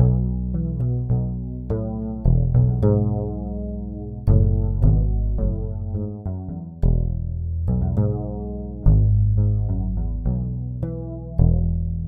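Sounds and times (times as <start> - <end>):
background music with strong bass: 0.0 - 12.0.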